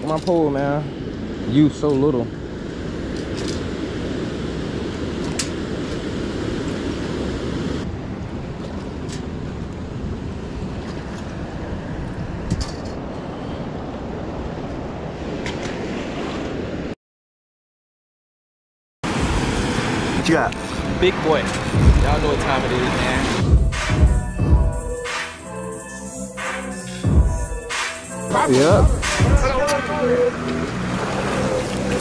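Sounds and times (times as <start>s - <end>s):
spillway water roaring: 0.0s - 17.0s, 19.0s - 25.8s, 26.4s - 32.0s.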